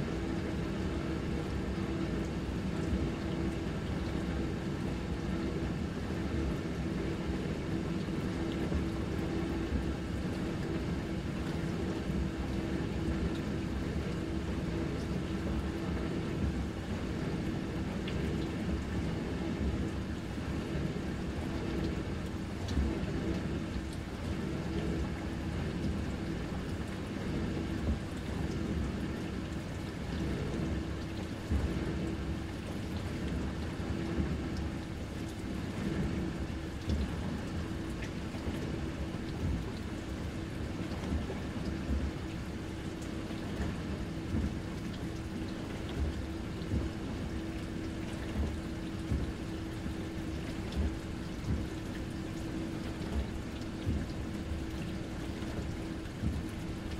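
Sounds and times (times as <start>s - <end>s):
constant hum: 0.0s - 56.9s.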